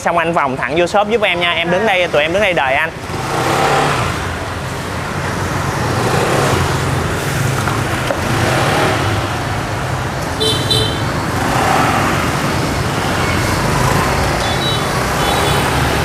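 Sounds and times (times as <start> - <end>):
passing vehicles rumbling: 0.0 - 16.0.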